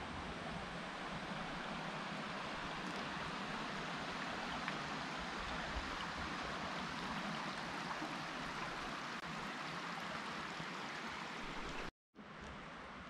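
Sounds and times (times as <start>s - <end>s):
river rushing over stones: 0.0s - 11.9s.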